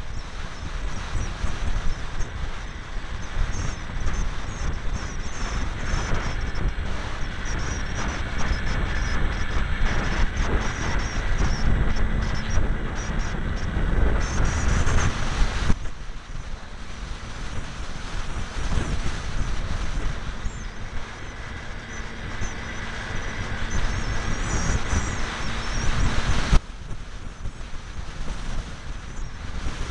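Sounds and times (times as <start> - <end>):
rc plane motor and propeller: 0.0 - 29.9
wind buffeting microphone: 0.0 - 29.9.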